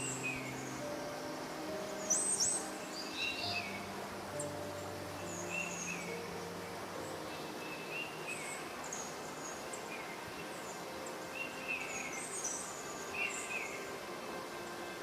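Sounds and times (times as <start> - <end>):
small birds chirping: 0.0 - 14.8
steady background hiss: 0.0 - 15.0.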